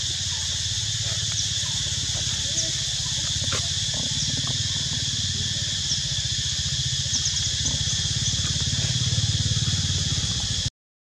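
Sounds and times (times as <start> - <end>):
insects droning: 0.0 - 10.7
small engine throbbing: 0.0 - 10.7.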